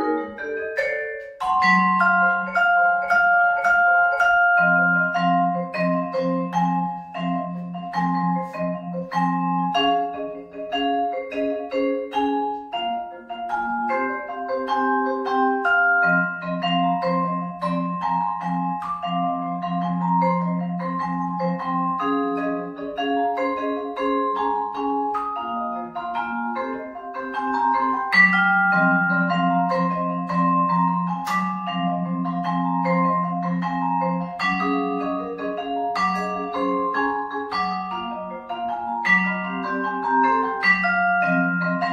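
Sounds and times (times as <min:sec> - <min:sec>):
vibraphone played with mallets: 0:00.0 - 0:41.9.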